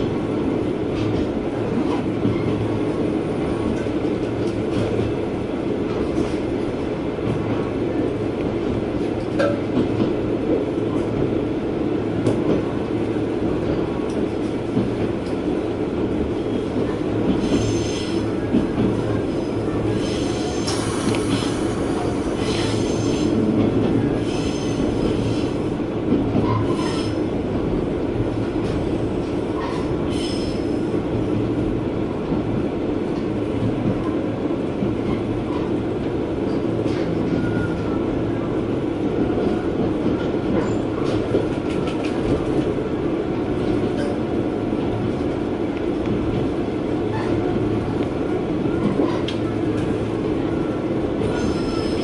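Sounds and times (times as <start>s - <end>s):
train engine and wheels rumbling: 0.0s - 52.0s.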